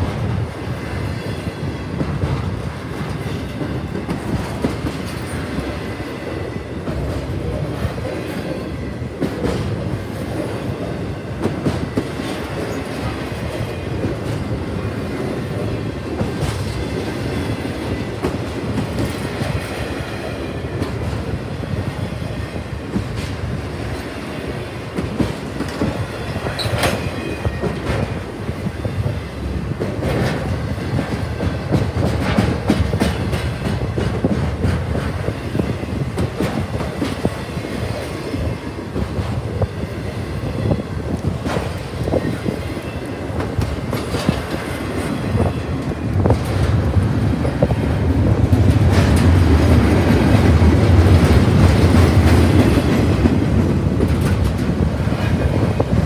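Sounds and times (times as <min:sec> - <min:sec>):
freight train wheels rumbling: 0:00.0 - 0:56.0
train clacks and knocks: 0:00.0 - 0:56.0.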